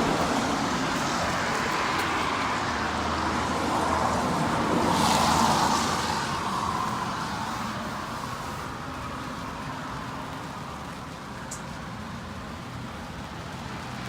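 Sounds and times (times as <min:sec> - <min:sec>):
heavy rain hissing: 0:00.0 - 0:14.0
tyres on wet road: 0:00.0 - 0:14.0.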